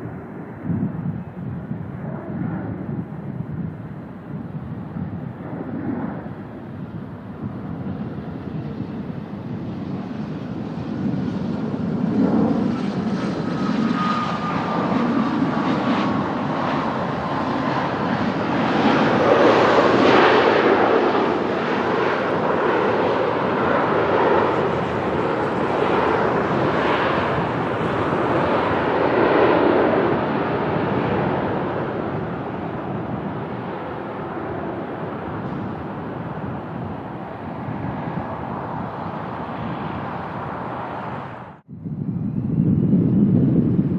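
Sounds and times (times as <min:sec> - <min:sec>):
jet passing overhead: 0:00.0 - 0:43.9.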